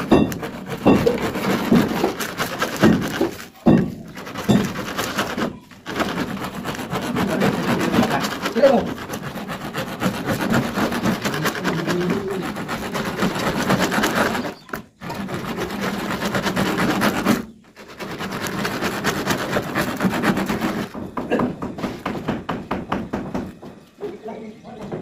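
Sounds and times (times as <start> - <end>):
hacksaws sawing plastic pipe: 0.0 - 23.4.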